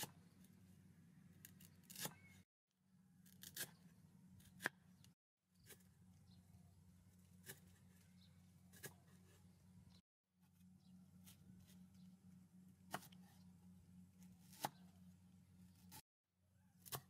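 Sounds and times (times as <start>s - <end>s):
low steady hum: 2.8s - 17.0s.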